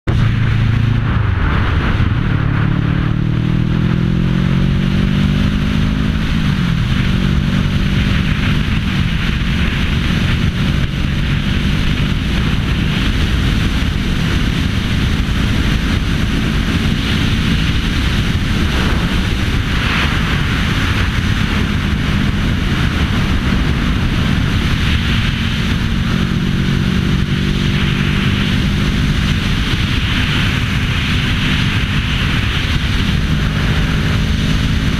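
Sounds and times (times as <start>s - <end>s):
motorcycle engine: 0.0s - 34.9s
wind rush on microphone: 0.0s - 34.9s.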